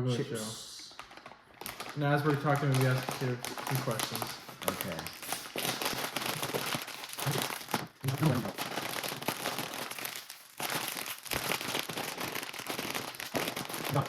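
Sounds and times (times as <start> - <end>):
plastic chip bag crinkling: 0.9 - 14.0.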